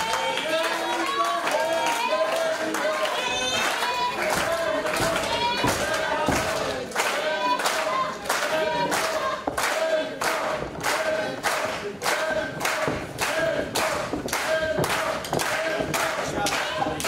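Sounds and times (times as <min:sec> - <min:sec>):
crowd clapping in unison: 0:00.0 - 0:17.0.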